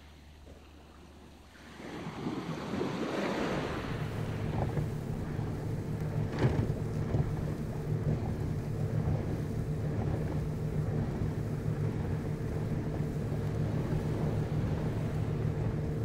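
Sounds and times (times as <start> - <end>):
boat engine humming: 0.0 - 16.0
wind buffeting microphone: 1.7 - 16.0.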